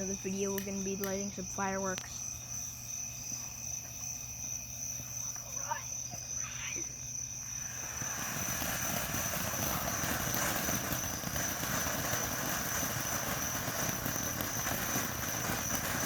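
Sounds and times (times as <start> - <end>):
firework hissing and crackling: 0.0 - 16.0.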